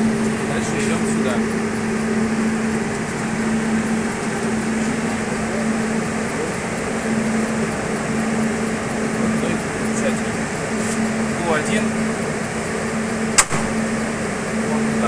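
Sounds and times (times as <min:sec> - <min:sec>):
cooling fans rushing air: 0:00.0 - 0:15.0
electrical hum: 0:00.0 - 0:15.0.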